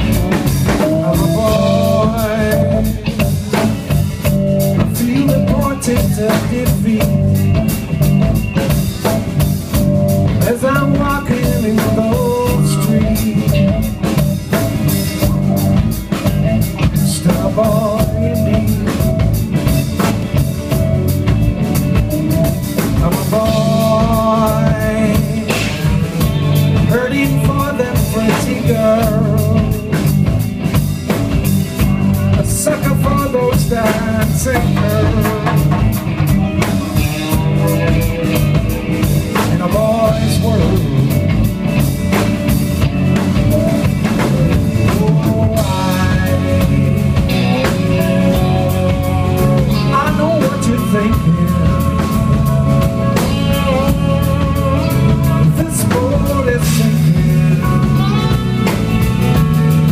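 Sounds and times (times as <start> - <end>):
man singing: 0.0 - 8.7, 9.7 - 20.8, 21.9 - 31.4, 32.1 - 41.9, 43.0 - 59.9
bass: 0.0 - 59.9
drum kit beat: 0.0 - 59.9
electric guitars: 0.0 - 59.9
keyboard: 0.0 - 59.9.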